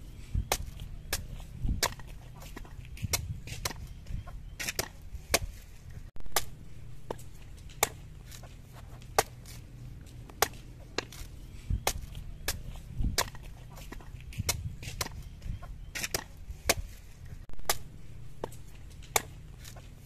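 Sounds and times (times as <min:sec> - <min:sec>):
machete chopping coconut husk: 0:00.5 - 0:03.9, 0:04.6 - 0:05.6, 0:06.2 - 0:09.6, 0:10.2 - 0:15.3, 0:15.9 - 0:20.0.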